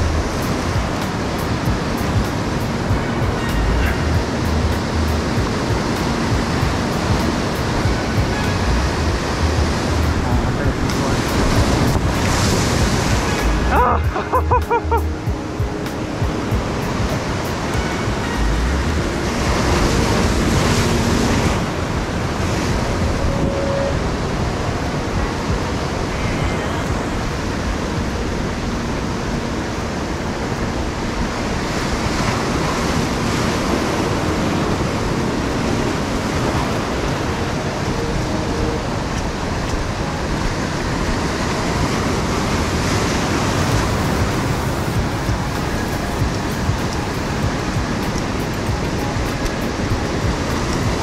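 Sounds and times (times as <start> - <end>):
sea surf breaking on rocks: 0.0 - 51.0.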